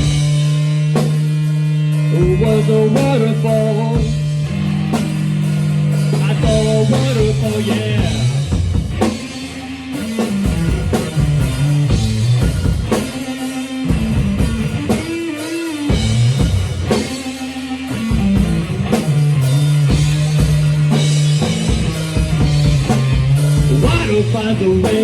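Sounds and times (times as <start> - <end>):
bass guitar: 0.0 - 25.0
drum kit beat: 0.0 - 25.0
electric guitar: 0.0 - 25.0.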